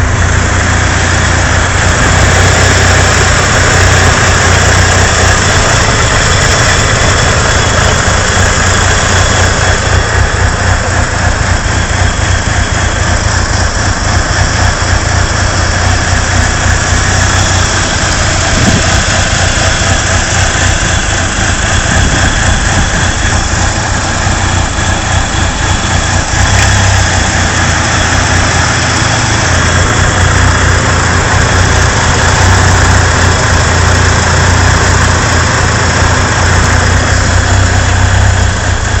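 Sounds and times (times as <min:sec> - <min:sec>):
engine idling roughly: 0:00.0 - 0:39.0.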